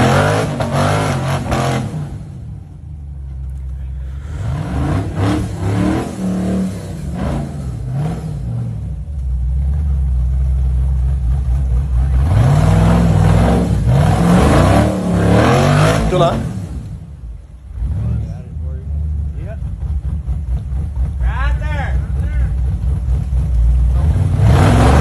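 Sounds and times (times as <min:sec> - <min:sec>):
buggy engine revving: 0:00.0 - 0:25.0.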